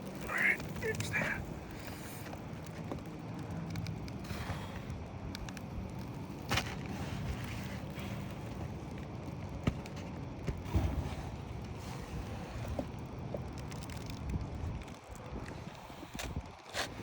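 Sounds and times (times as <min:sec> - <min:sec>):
shingles scraping and crackling: 0:00.0 - 0:17.0
wind rumble on microphone: 0:01.3 - 0:17.0.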